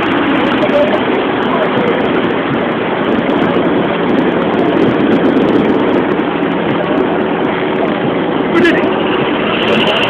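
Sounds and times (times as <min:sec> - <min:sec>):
boat engine drone: 0:00.0 - 0:10.0
wind and water rushing: 0:00.0 - 0:10.0.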